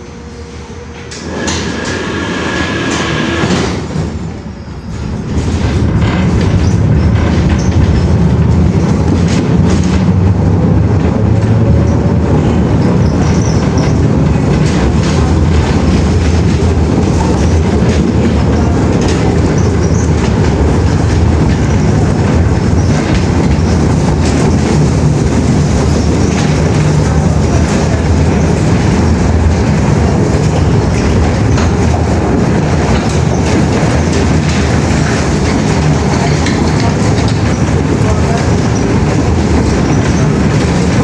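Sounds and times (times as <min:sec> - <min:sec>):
loud low rumble: 0:05.2 - 0:41.0.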